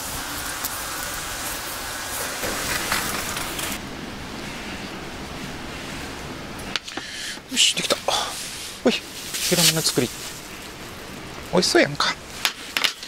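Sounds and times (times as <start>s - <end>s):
wood fire hissing and crackling: 0.0s - 13.0s.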